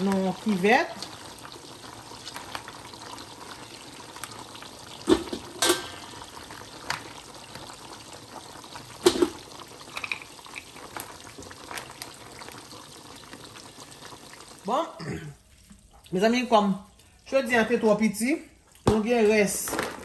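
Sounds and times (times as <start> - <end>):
pot of water boiling: 0.0 - 20.0.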